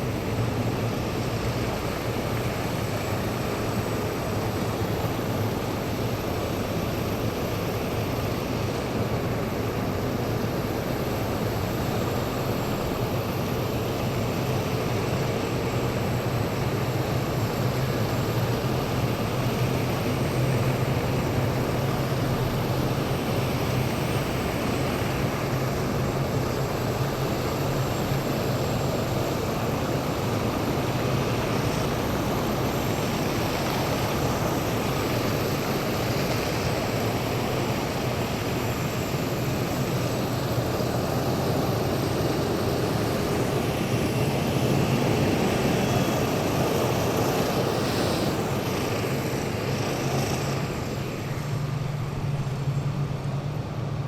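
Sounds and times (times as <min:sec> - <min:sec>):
heavy vehicles diesel engines rumbling: 0:00.0 - 0:54.0.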